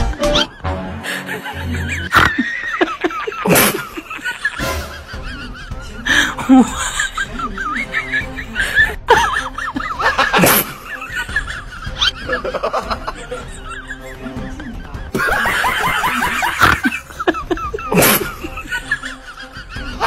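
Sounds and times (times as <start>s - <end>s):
background music: 0.0s - 20.0s
people laughing and snickering: 0.0s - 20.0s.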